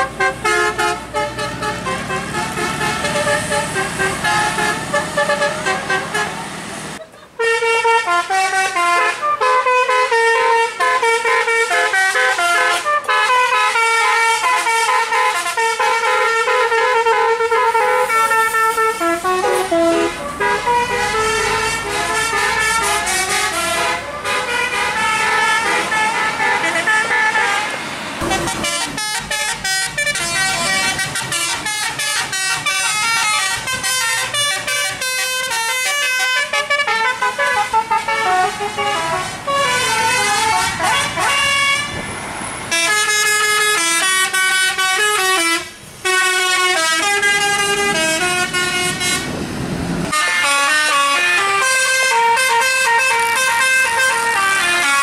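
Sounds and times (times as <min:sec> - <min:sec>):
bus horn melodies: 0:00.0 - 0:42.1, 0:42.7 - 0:55.0.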